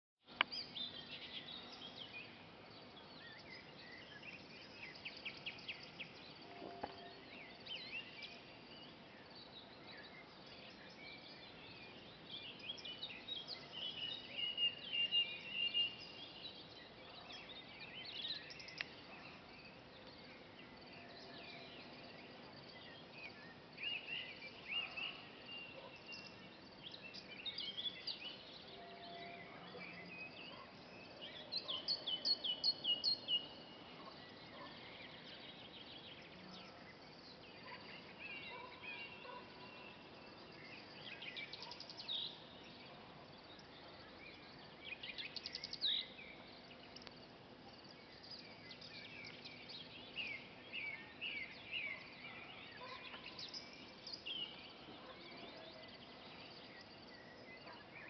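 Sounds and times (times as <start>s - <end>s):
background hiss: 0.2s - 58.0s
birds chirping and trilling: 0.5s - 58.0s.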